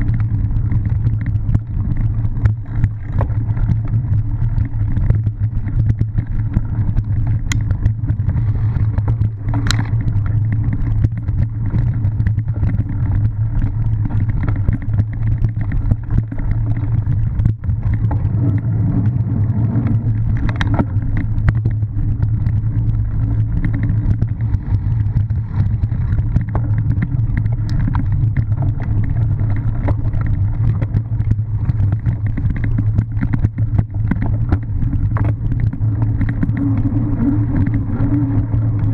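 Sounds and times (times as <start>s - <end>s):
bike rattling clicks and knocks: 0.0s - 38.9s
bike rolling over grass and dirt: 0.0s - 38.9s
wind on microphone: 0.0s - 38.9s.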